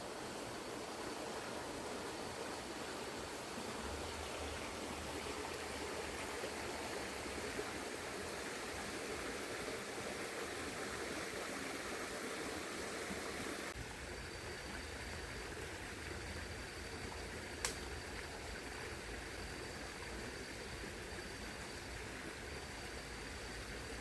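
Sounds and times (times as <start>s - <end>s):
river water running over rocks: 0.0s - 24.0s.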